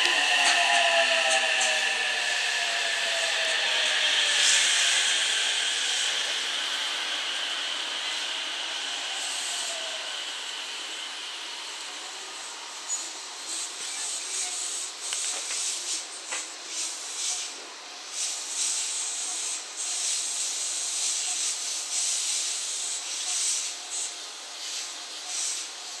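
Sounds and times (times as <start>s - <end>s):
electric train hissing rush: 0.0s - 26.0s.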